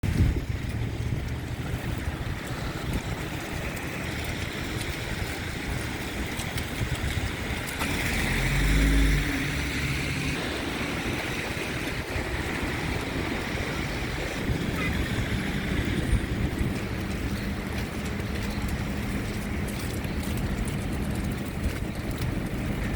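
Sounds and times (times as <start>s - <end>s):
heavy vehicle engine rumble: 0.0s - 22.9s
vehicles hissing on snowy streets: 0.0s - 22.9s
wind on microphone: 0.0s - 22.9s.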